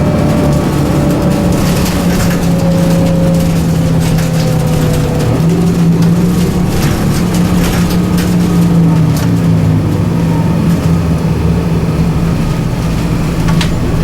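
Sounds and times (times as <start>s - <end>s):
sharp rattling clicks: 0.0s - 11.3s
bus engine droning: 0.0s - 14.0s.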